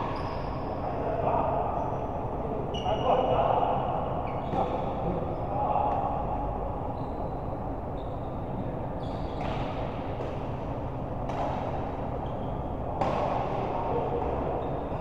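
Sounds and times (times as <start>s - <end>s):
large hall murmur: 0.0s - 15.0s.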